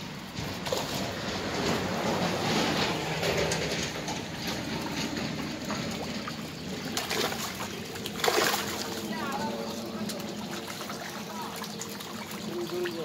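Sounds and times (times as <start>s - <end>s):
fish thrashing and splashing in water: 0.0s - 13.0s.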